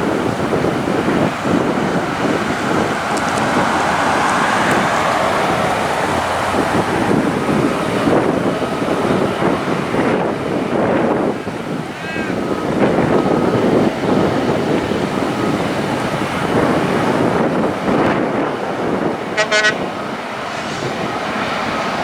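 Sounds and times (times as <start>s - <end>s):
road vehicles: 0.0s - 22.0s
wind buffeting microphone: 0.0s - 22.0s.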